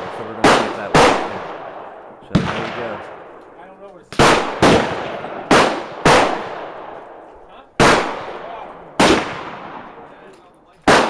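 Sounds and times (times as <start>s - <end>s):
pistol shots with echo: 0.0s - 10.1s, 10.8s - 11.0s.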